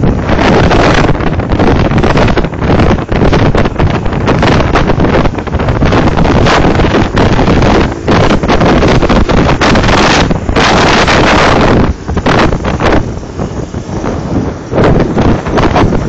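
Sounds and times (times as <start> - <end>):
motorcycle and scooter engines: 0.0 - 16.0
wind buffeting on microphone: 0.0 - 16.0.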